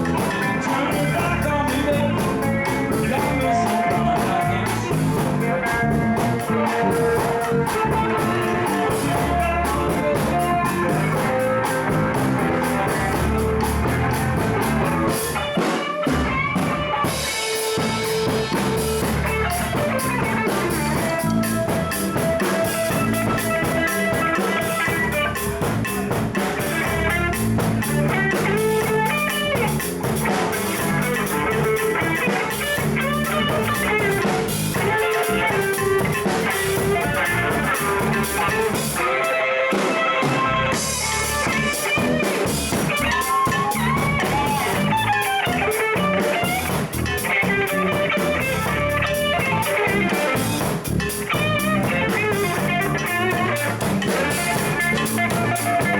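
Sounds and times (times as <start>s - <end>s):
bass guitar: 0.0s - 55.9s
drum kit: 0.0s - 55.9s
guitar playing: 0.0s - 55.9s.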